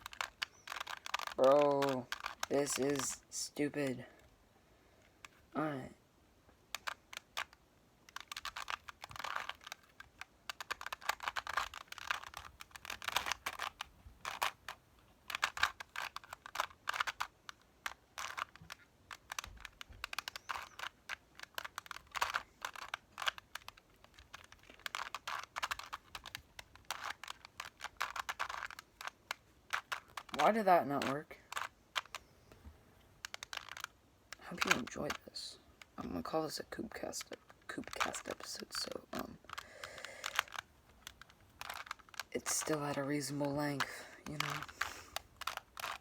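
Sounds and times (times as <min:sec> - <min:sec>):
plastic cube clicking as twisted: 0:00.0 - 0:04.3, 0:04.9 - 0:46.0.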